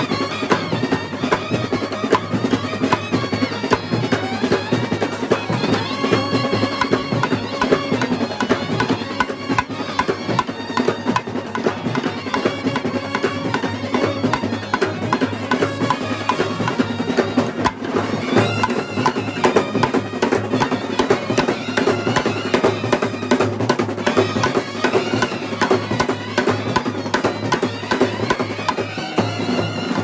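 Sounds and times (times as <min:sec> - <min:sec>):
snare drum strokes: 0:00.0 - 0:30.0
trumpets and euphoniums: 0:00.0 - 0:30.0.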